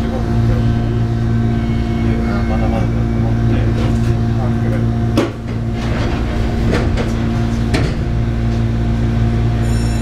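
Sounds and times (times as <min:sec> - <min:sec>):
electric train equipment hum: 0:00.0 - 0:10.0.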